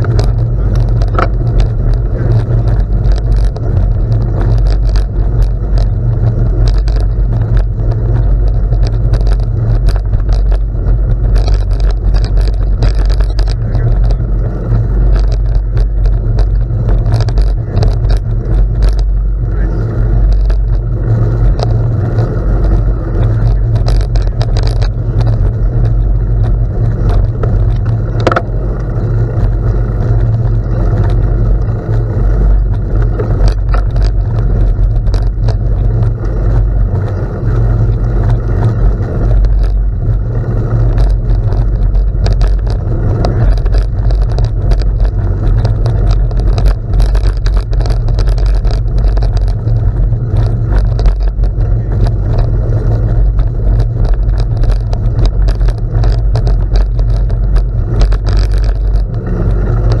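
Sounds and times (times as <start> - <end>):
tyres rolling over gravel: 0.0 - 60.0
wind rumbling on microphone: 0.0 - 60.0.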